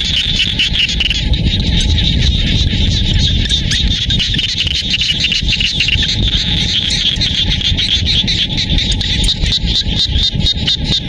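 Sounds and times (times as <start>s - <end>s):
frogs calling: 0.0s - 11.0s
low rumble: 0.0s - 11.0s.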